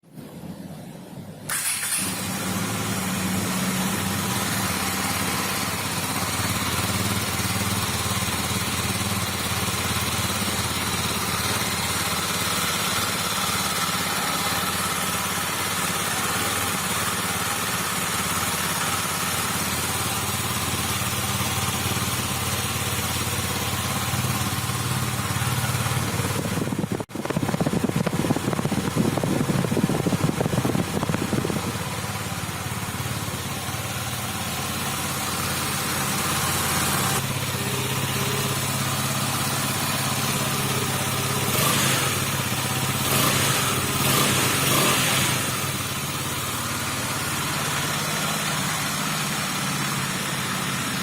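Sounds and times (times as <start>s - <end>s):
motorcycle engine idling: 0.1s - 51.0s.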